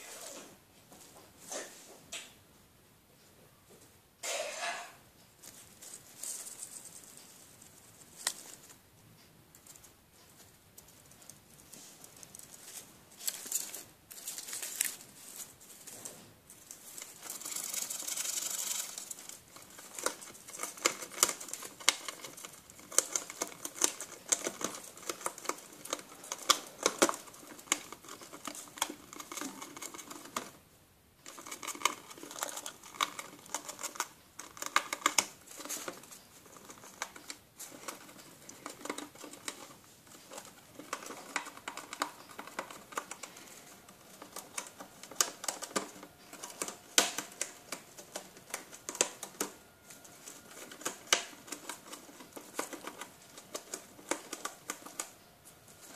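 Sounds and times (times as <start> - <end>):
gerbil gnawing cardboard: 9.6 - 30.6, 31.2 - 55.9.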